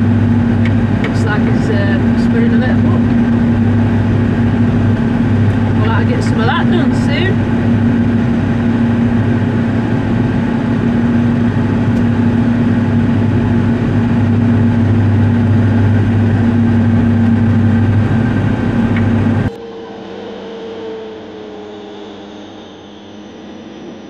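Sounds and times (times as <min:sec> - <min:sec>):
tractor engine humming: 0:00.0 - 0:19.6.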